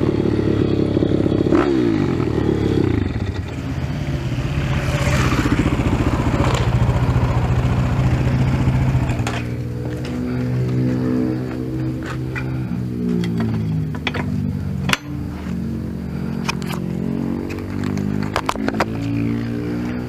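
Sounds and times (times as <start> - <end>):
motorbike engine running at low revs: 0.0 - 20.0.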